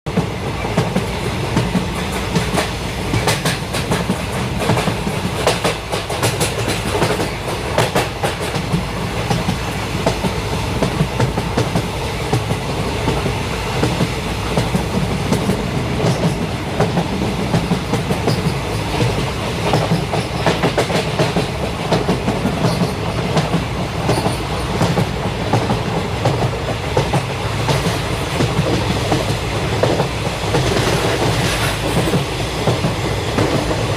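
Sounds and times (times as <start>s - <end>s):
train rumble: 0.1s - 33.9s
train wheels clickety-clack: 0.1s - 33.9s.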